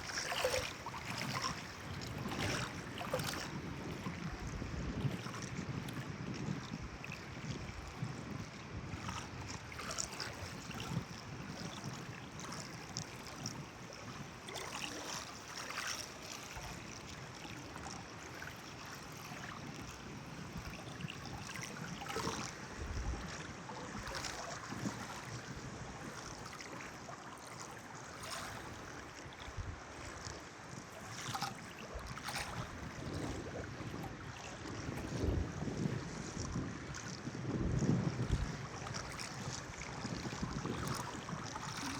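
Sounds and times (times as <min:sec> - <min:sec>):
wind rumbling on microphone: 0:00.0 - 0:15.3, 0:16.7 - 0:26.8, 0:28.3 - 0:41.9
water splashing and lapping: 0:00.0 - 0:41.9.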